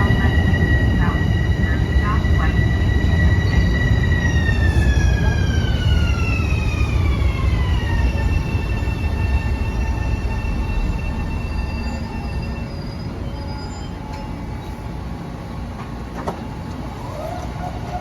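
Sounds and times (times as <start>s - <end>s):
high-pitched train whine: 0.0s - 18.0s
train rumbling on tracks: 0.0s - 18.0s.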